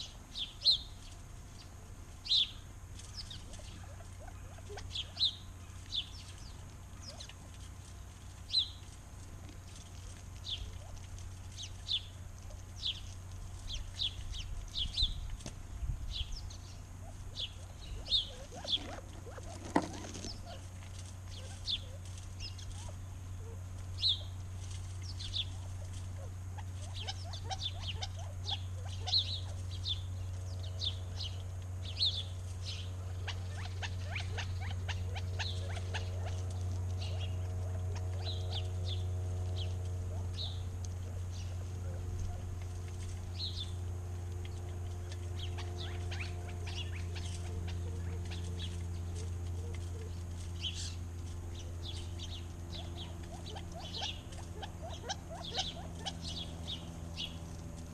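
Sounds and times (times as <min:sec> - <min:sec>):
faint steady drone: 0:00.0 - 0:57.9
small birds chirping: 0:00.0 - 0:57.9
steady low hum: 0:00.0 - 0:57.9.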